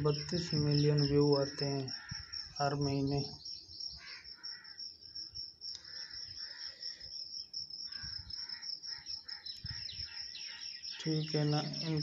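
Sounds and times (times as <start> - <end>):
faint chirps: 0.0 - 12.0
high-pitched insect chirring: 0.0 - 12.0.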